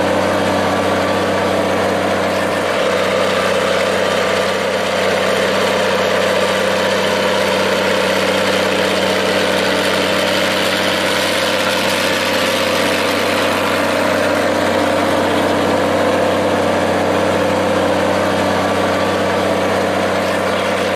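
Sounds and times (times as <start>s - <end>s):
tractor engine idling: 0.0s - 20.9s.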